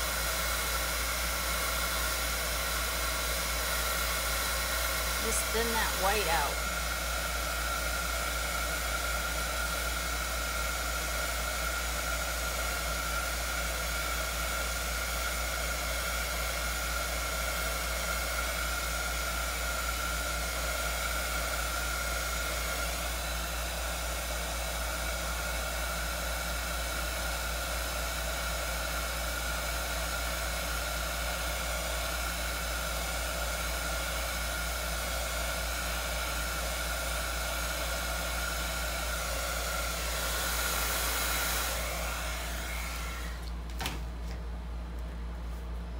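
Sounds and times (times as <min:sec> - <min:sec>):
heat gun blowing with fan whine: 0:00.0 - 0:45.9.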